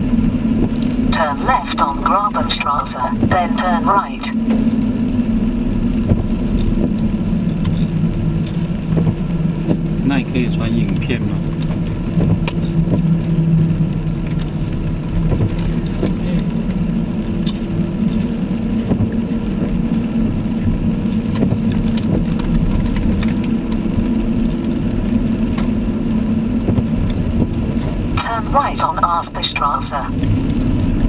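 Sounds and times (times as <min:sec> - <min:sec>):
car engine hum: 0:00.0 - 0:31.0
tyres on wet road: 0:00.0 - 0:31.0.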